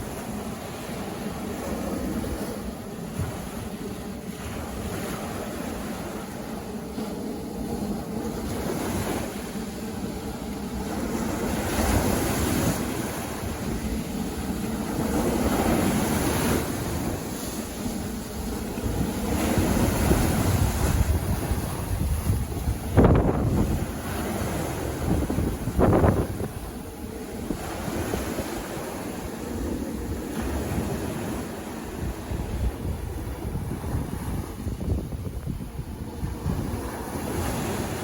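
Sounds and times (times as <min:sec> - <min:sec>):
surf breaking on beach: 0:00.0 - 0:38.0.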